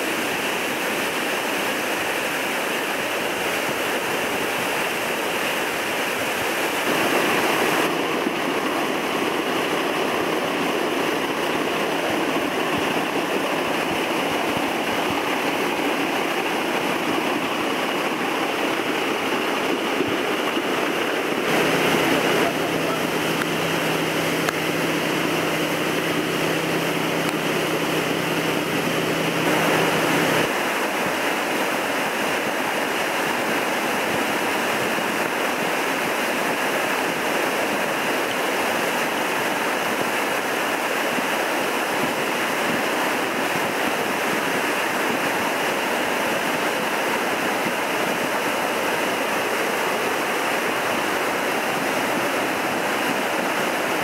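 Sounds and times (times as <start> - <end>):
fast river water rushing: 0.0 - 54.0.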